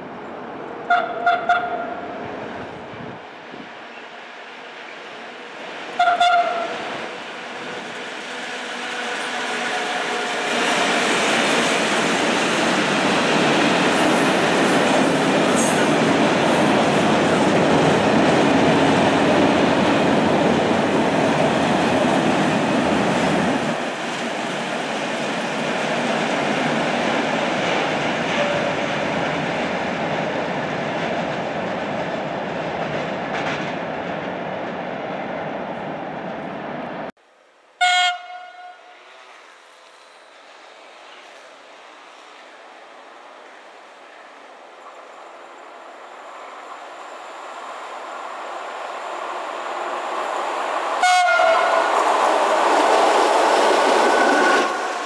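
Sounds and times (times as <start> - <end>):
train wheels on rails: 0.2 - 37.1, 38.9 - 55.0.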